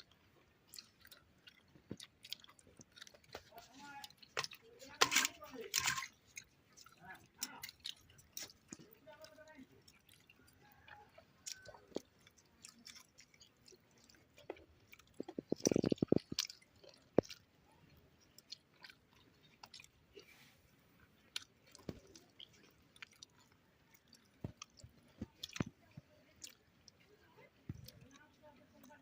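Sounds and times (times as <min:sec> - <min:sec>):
chewing and mouth sounds: 0:00.0 - 0:29.0.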